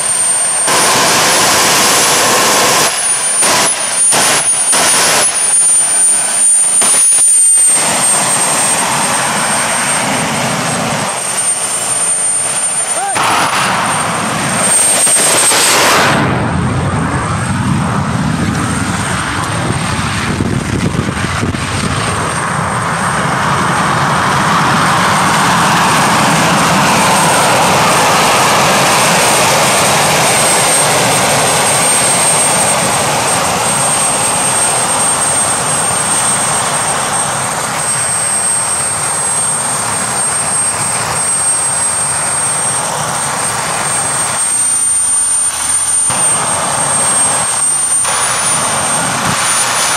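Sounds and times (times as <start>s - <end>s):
jet engine running: 0.0s - 49.9s.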